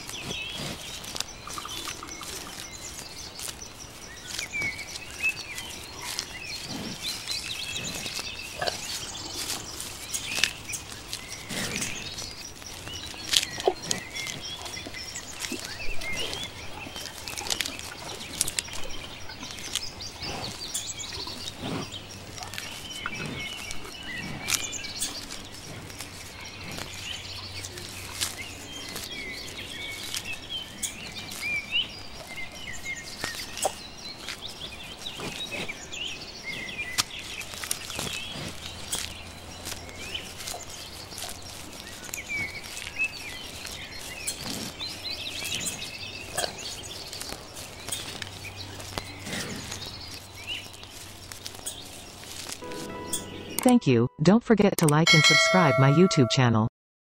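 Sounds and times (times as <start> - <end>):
small birds chirping: 0.0 - 54.2.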